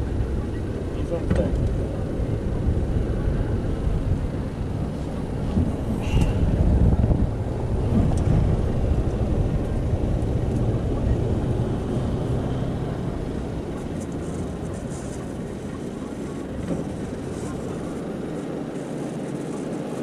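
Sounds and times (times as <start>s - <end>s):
outboard motors rumbling: 0.0s - 20.0s
wind: 0.0s - 20.0s.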